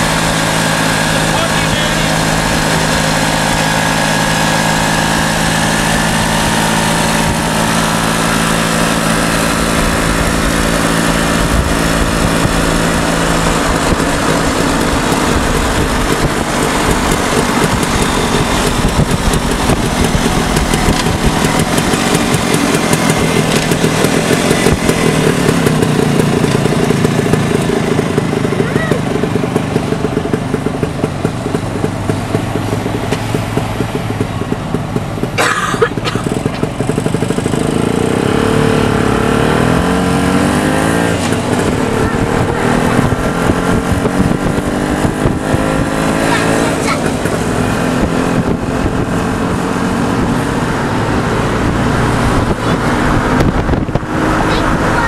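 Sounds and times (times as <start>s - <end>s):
two-stroke motorcycle engine: 0.0s - 55.0s.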